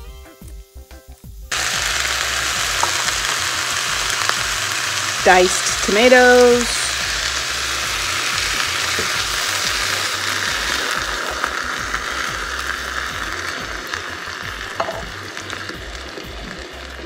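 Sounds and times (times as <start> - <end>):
meat sauce sizzling in a skillet: 0.4 - 17.0
tomatoes poured into a pan: 1.5 - 17.0.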